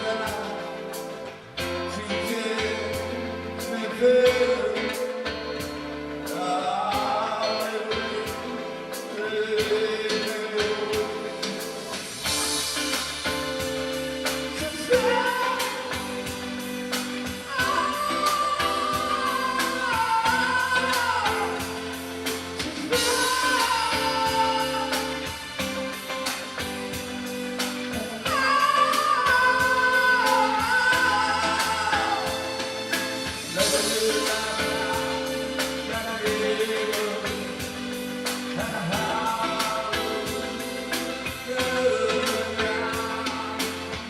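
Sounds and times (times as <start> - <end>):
instruments with steady beat: 0.0 - 44.0
person singing: 0.0 - 44.0.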